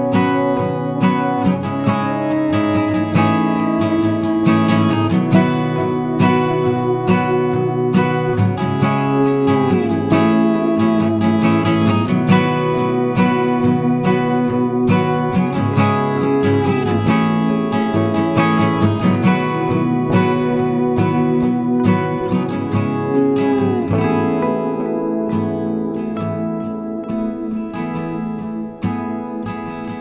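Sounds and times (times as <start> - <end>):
plucked string instrumental music: 0.0 - 30.0.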